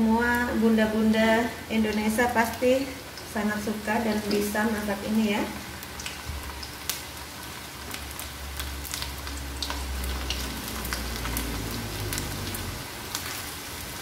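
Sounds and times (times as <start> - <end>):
deep-frying sizzle with crackles: 0.0 - 14.0.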